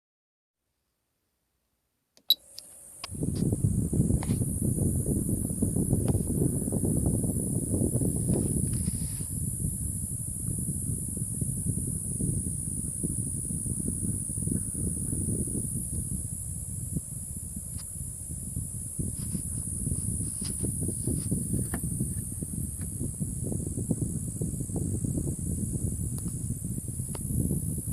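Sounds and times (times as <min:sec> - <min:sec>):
air purifier high-pitched whine: 0:02.2 - 0:27.9
fan rushing: 0:02.8 - 0:27.9.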